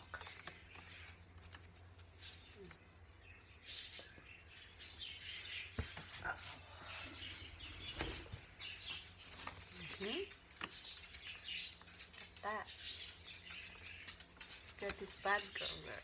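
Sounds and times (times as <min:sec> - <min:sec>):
pet bird chirping: 0:00.0 - 0:16.0.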